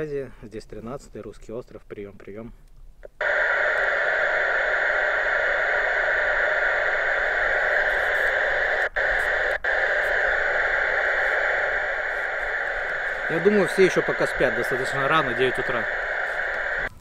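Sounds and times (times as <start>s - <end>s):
radio static hiss: 3.0s - 17.0s.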